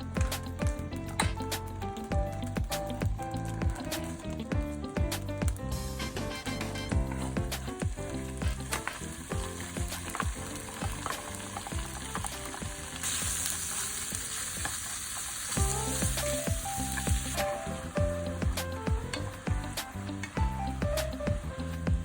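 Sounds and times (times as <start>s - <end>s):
background music: 0.0s - 22.0s
sizzling hiss: 0.0s - 22.0s.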